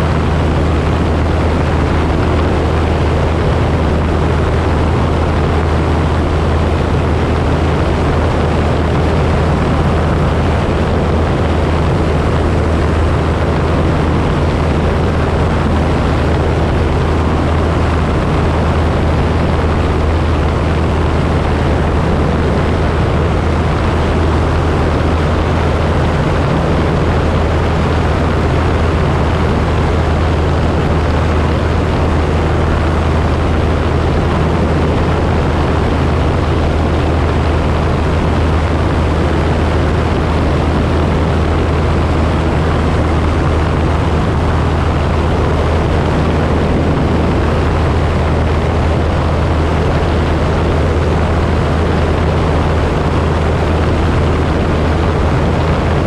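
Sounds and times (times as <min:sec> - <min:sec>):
airflow rushing: 0:00.0 - 0:56.0
light aircraft engine drone: 0:00.0 - 0:56.0.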